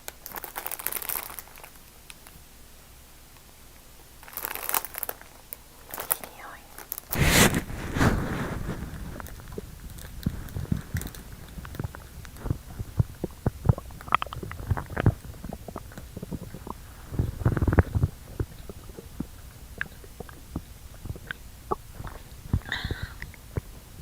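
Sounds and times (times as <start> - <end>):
stomach gurgling and rumbling: 4.2 - 24.0.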